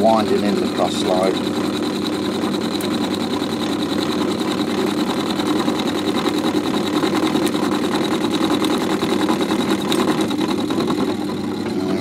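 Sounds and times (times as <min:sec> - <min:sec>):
lathe machine whir: 0:00.0 - 0:12.0.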